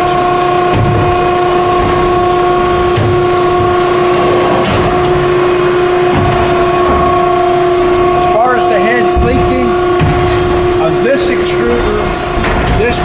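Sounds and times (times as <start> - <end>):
blow molding machine whining: 0.0 - 13.0
mechanical rumble: 0.0 - 13.0.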